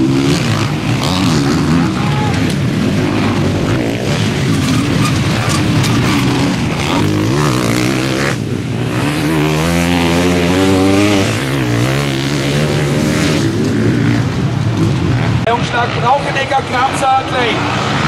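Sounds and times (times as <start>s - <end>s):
motocross bike engines revving: 0.0s - 18.0s
motorbike passing close: 0.0s - 18.0s.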